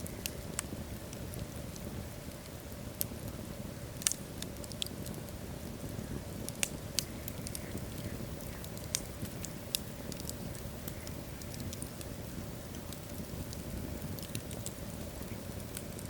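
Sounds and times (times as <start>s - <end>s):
flames rumbling: 0.0s - 16.0s
wood crackling and popping: 0.0s - 16.0s.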